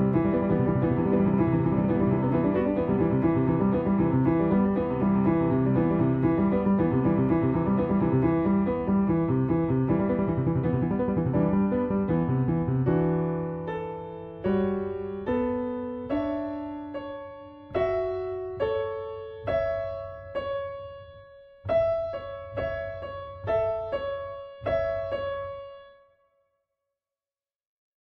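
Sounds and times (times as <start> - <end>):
solo piano music: 0.0 - 26.4.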